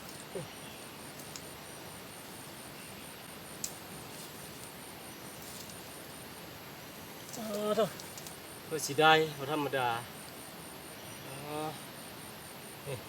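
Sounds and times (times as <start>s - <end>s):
high thin insect call: 0.0s - 13.0s
outdoor background hiss: 0.0s - 13.0s.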